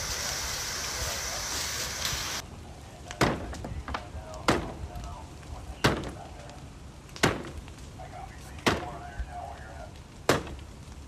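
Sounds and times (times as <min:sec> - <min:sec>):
fire hose spraying water: 0:00.0 - 0:11.0.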